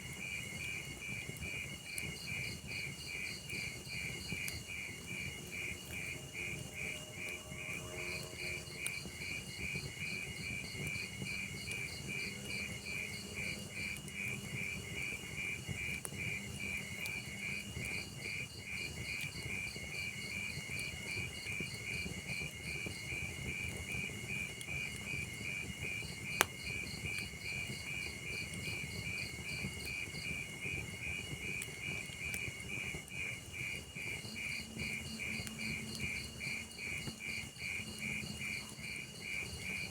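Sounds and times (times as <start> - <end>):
log fire crackling: 0.0 - 39.9
crickets chirping: 0.2 - 39.9.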